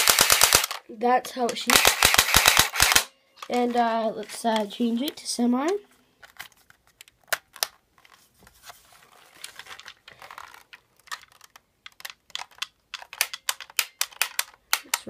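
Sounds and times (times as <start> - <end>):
plastic rifle clicks and rattles: 0.0 - 0.8, 1.4 - 7.8, 9.4 - 15.0.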